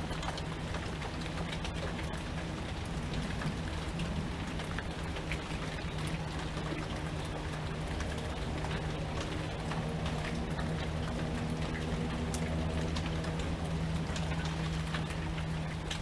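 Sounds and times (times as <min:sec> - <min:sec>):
raindrops ticking: 0:00.0 - 0:16.0
steady rain falling: 0:00.0 - 0:16.0.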